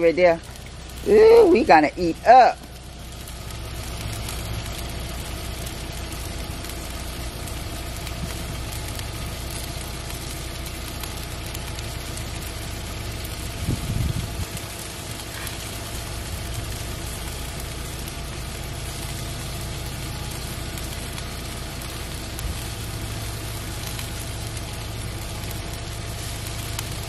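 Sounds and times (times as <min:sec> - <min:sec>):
light hiss: 0:00.0 - 0:27.0
steady engine-like hum: 0:00.0 - 0:27.0.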